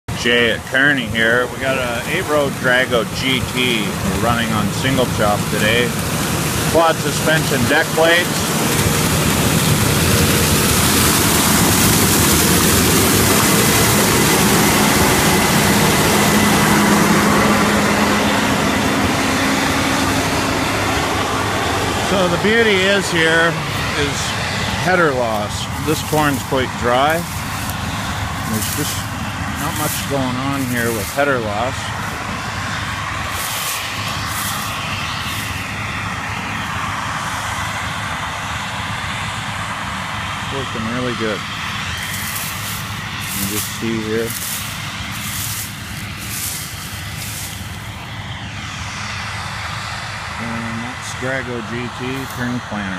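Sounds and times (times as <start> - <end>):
combine harvester drone: 0.0 - 52.9
faint high whine: 0.1 - 52.9
low hum: 0.5 - 52.9
dense hiss of corn: 1.6 - 19.4, 22.0 - 38.0, 40.6 - 52.8.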